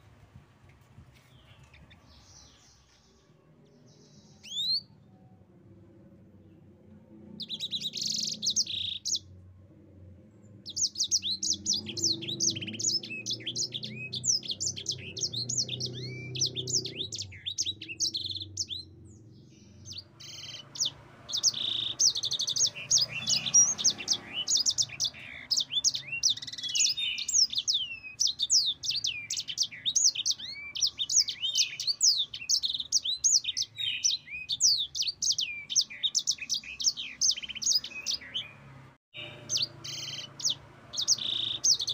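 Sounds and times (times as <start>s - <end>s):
canary twittering song: 1.3s - 5.0s, 7.3s - 9.4s, 10.6s - 41.9s.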